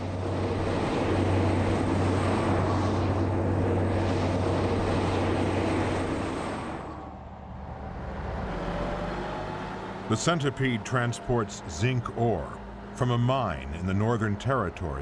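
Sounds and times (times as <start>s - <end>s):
truck engine hum: 0.0s - 15.0s.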